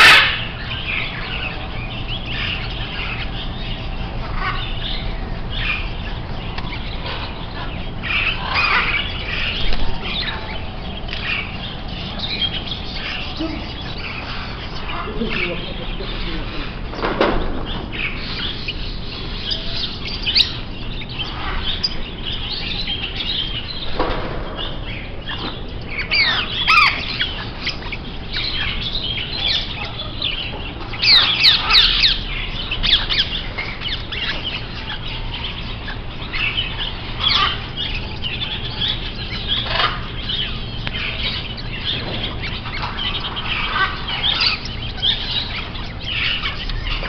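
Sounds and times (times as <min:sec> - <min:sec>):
caged small birds chirping: 0:00.0 - 0:47.0.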